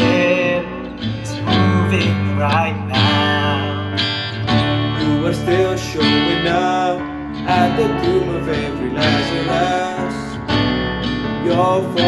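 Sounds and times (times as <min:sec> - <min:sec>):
strummed acoustic guitar: 0:00.0 - 0:12.0
worship band music: 0:00.0 - 0:12.0.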